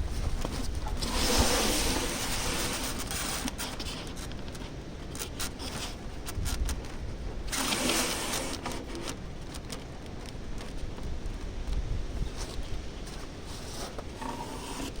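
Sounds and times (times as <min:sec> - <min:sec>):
scraping and clicking handling noises: 0:00.0 - 0:15.0.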